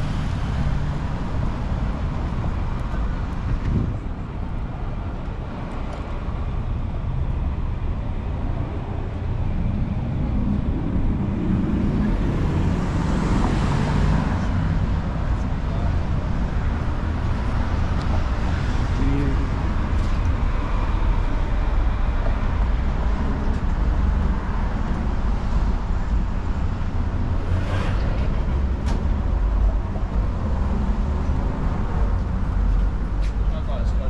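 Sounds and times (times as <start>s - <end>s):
cars going by: 0.0s - 34.0s
low rumble of road traffic: 0.0s - 34.0s.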